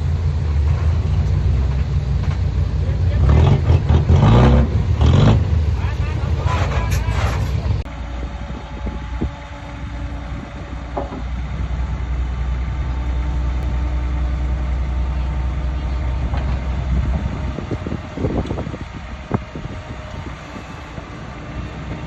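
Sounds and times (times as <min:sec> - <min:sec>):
diesel engine low rumble: 0:00.0 - 0:22.0
steel tracks clanking: 0:00.0 - 0:22.0.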